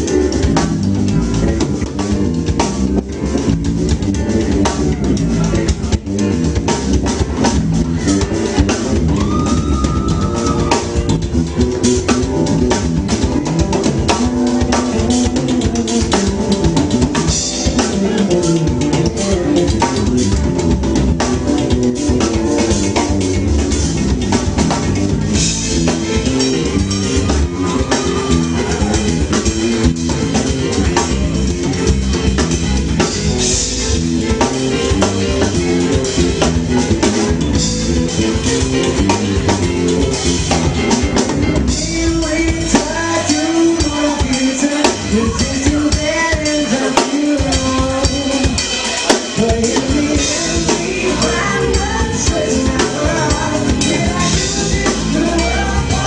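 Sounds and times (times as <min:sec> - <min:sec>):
drum kit: 0:00.0 - 0:56.0
live soul band playing: 0:00.0 - 0:56.0.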